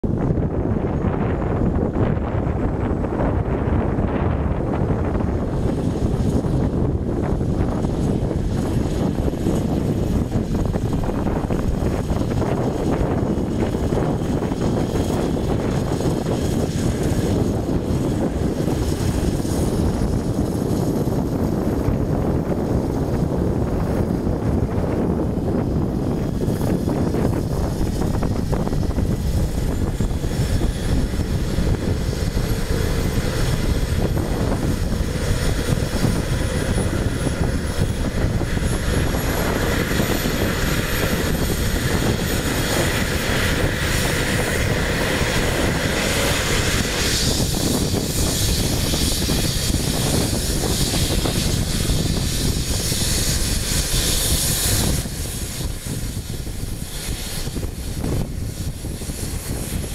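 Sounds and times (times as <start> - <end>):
helicopter rotor rumble: 0.0 - 59.9
helicopter turbine whine: 0.0 - 59.9.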